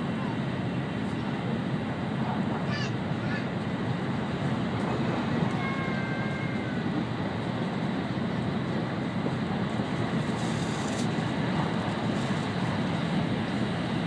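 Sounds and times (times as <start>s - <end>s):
train cabin running noise: 0.0s - 14.0s.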